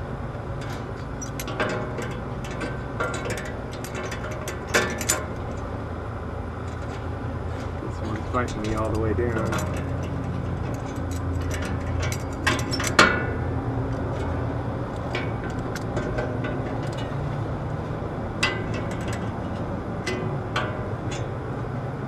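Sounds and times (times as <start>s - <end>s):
steady low hum: 0.0s - 22.0s
metal clicks and knocks: 0.4s - 22.0s.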